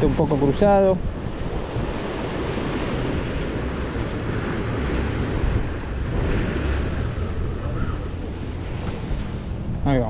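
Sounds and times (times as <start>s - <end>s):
sea surf: 0.0s - 10.0s
wind buffeting microphone: 0.0s - 10.0s.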